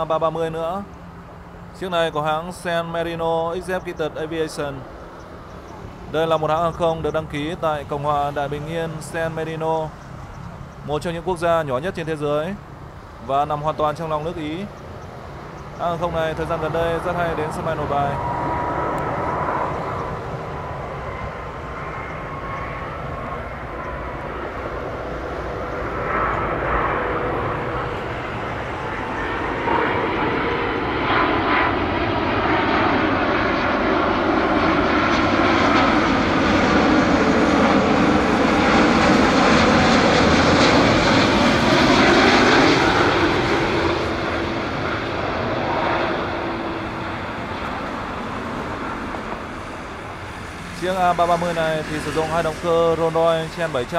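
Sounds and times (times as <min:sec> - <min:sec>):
jet airliner rumble with whine: 0:00.0 - 0:53.9.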